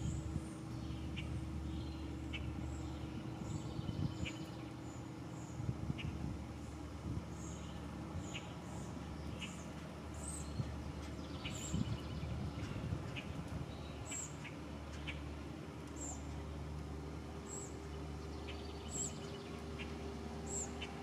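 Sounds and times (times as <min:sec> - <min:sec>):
songbird chirping: 0:00.0 - 0:06.1, 0:06.7 - 0:21.0
steady low hum: 0:00.0 - 0:21.0.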